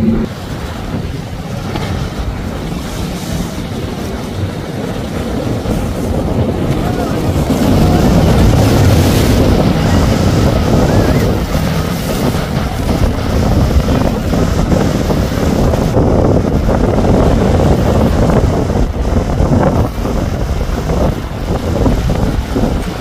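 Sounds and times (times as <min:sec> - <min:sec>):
hull spray splashing: 0:00.0 - 0:23.0
powerboat engines: 0:00.0 - 0:23.0
wind buffeting microphone: 0:00.0 - 0:23.0.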